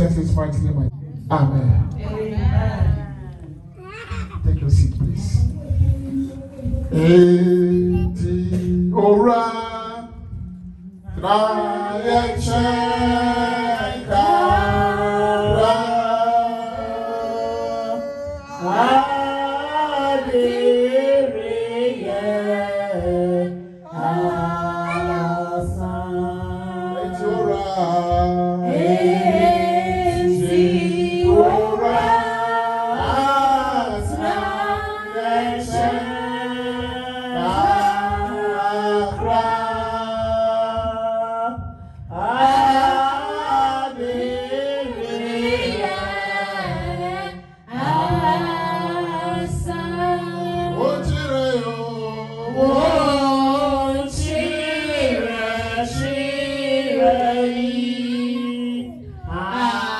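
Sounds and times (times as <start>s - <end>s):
voices singing worship song: 0.0s - 59.9s.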